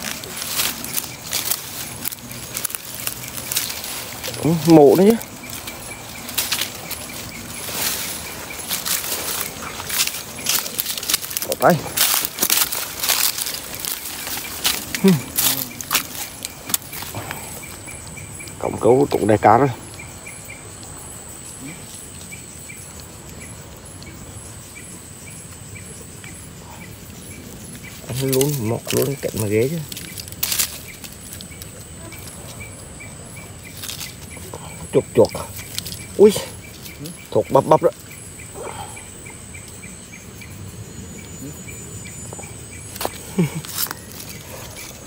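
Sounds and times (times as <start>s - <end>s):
high-pitched insect trill: 0.0s - 45.0s
short insect chirps: 0.0s - 45.0s.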